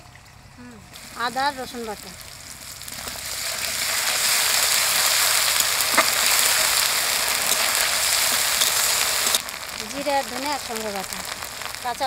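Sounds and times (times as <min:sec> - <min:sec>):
food sizzling in hot oil: 0:00.9 - 0:12.0.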